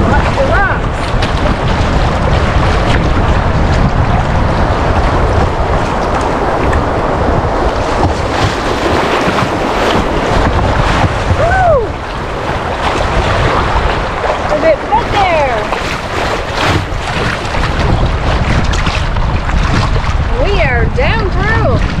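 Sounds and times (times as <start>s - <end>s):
whitewater rapids rushing: 0.0s - 19.7s
paddle blades splashing: 0.0s - 22.0s
wind buffeting microphone: 0.0s - 22.0s.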